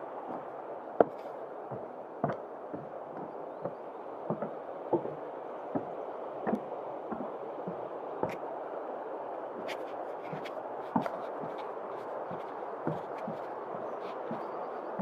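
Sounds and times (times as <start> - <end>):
steady background hiss: 0.0 - 15.0
footsteps on a trail: 0.2 - 8.5, 9.6 - 15.0.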